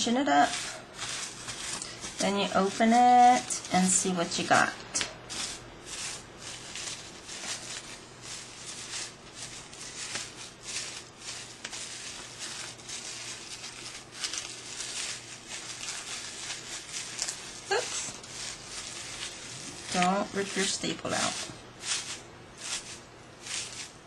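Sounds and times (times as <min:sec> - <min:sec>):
tissue paper crinkling: 0:00.0 - 0:04.4, 0:05.0 - 0:24.0.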